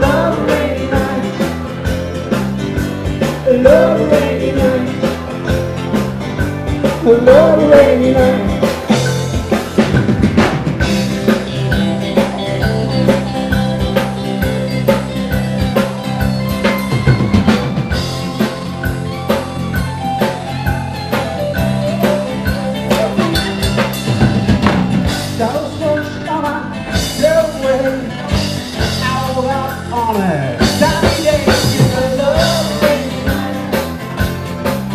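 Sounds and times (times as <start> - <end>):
drum kit beat: 0.0 - 34.9
live band playing country-rock: 0.0 - 34.9.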